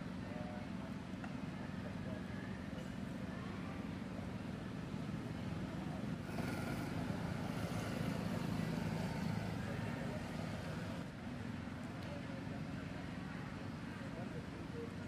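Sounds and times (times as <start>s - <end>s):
low vehicle engine rumble: 0.0s - 15.0s.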